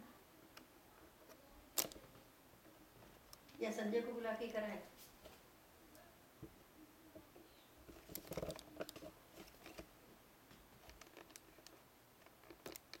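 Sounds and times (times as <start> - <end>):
faint clicks and rustles: 0.4 - 13.0.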